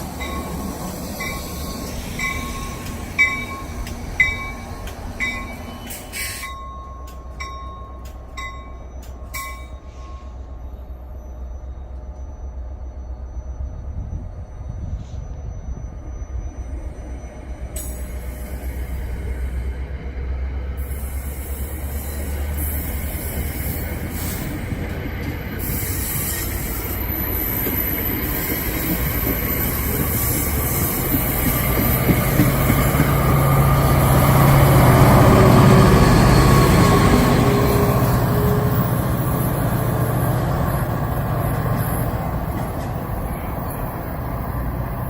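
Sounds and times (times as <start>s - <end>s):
train passing: 0.0s - 45.0s.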